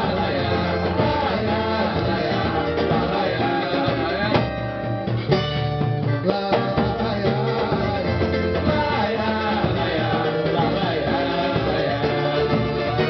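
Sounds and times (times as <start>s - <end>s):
samba group playing: 0.0s - 13.0s.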